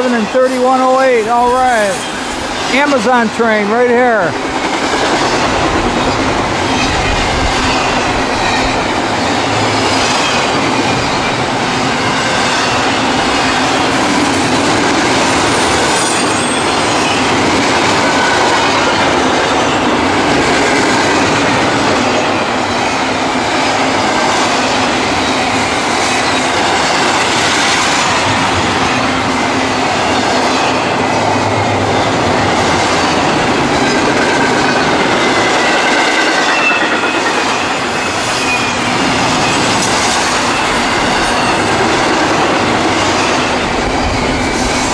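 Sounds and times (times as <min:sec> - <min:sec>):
freight train wheels on rail: 0:00.0 - 0:44.9.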